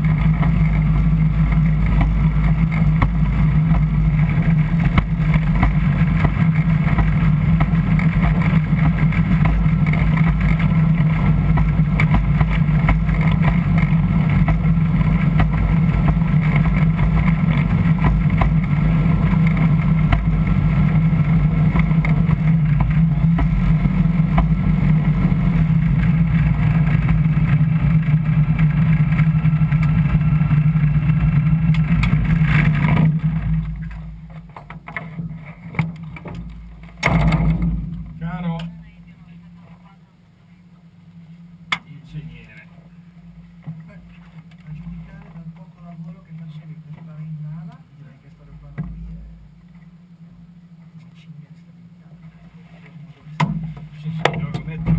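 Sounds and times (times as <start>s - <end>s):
aircraft engine and propeller running: 0.0s - 54.9s.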